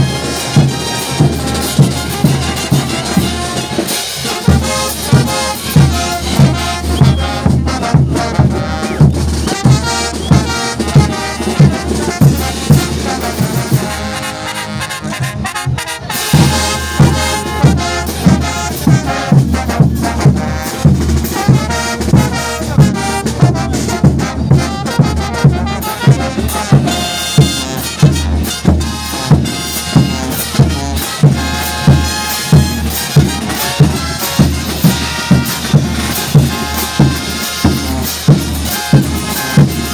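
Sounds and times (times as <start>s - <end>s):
bass drum beat: 0.0s - 14.2s, 15.6s - 39.9s
brass band playing: 0.0s - 39.9s.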